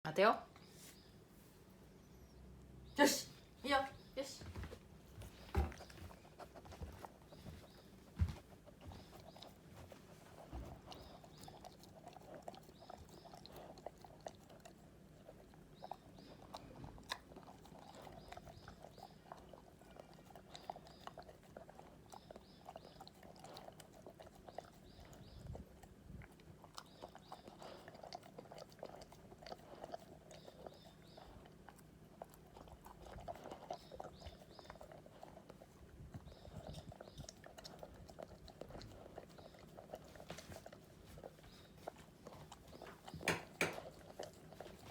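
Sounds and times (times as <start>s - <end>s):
dog chewing food: 4.5s - 44.9s.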